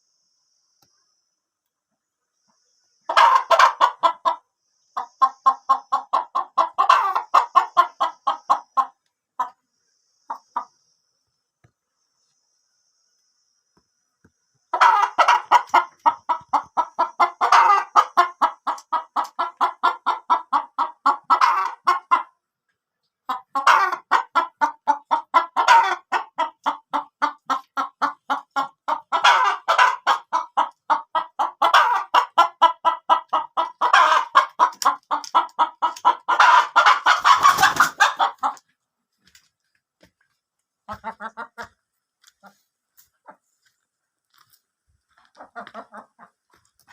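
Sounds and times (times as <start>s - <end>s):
chickens clucking: 2.0s - 11.0s, 14.6s - 46.9s.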